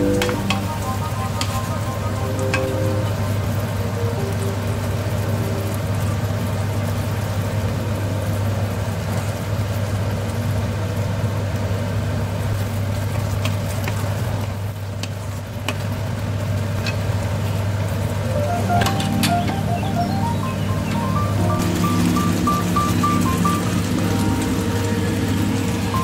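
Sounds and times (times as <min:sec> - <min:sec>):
chicken sizzling in a wok: 0:00.0 - 0:18.4, 0:19.6 - 0:26.0.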